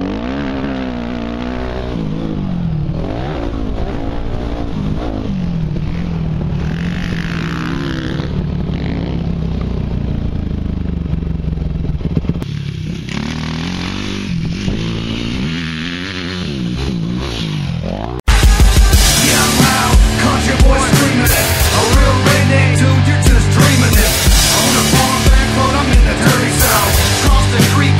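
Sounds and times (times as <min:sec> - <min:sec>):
dirt bike engine revving: 0:00.0 - 0:27.9.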